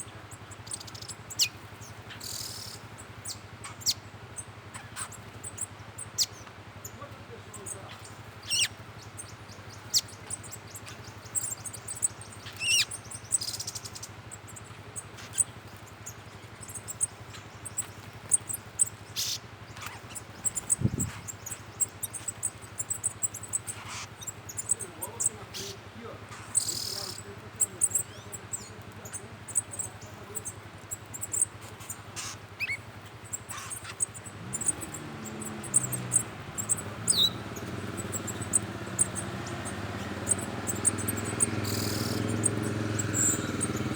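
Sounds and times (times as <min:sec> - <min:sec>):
forest birds calling: 0:00.0 - 0:43.9
insects chirping: 0:00.0 - 0:43.9.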